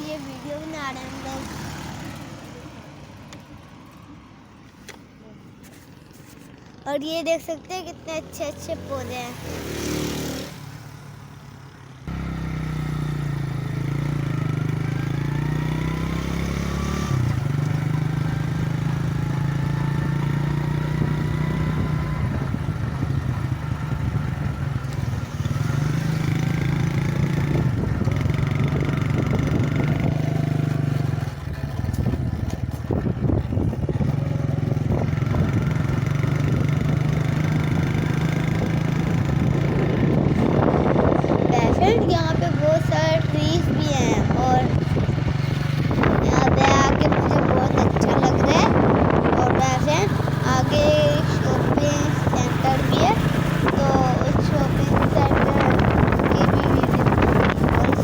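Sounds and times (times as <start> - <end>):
motorcycle engine droning: 8.2 - 58.0.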